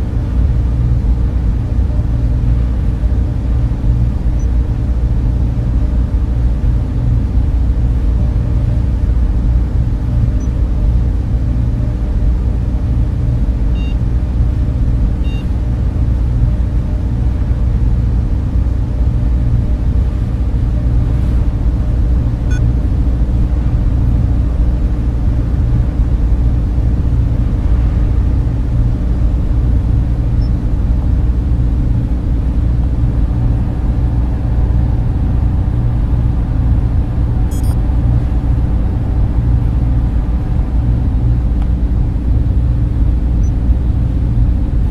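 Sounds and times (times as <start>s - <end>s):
cooling fans droning: 0.0s - 44.9s.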